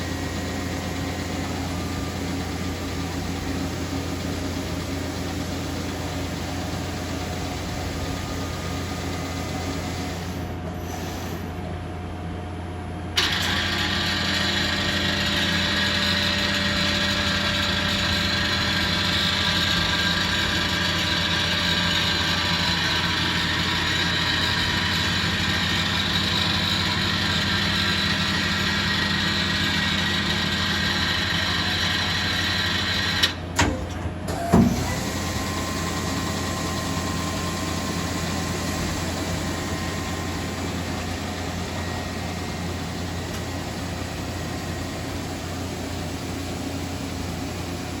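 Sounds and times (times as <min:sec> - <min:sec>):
lathe humming and whining: 0:00.0 - 0:48.0.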